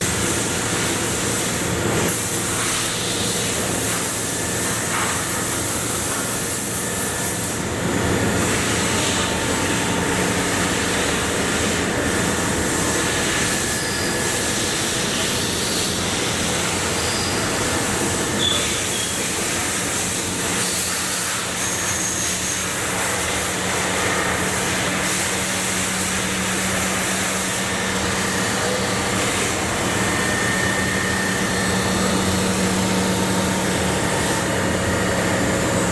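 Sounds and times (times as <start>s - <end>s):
industrial machinery humming: 0.0s - 35.9s.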